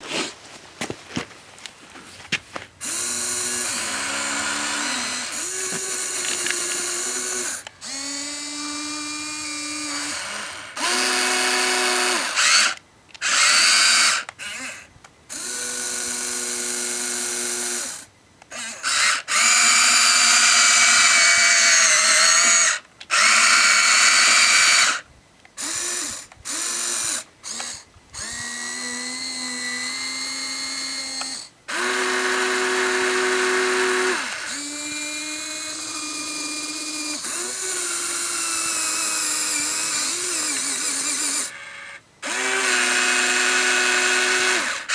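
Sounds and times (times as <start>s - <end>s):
small electric gear motors whining: 2.8s - 44.9s.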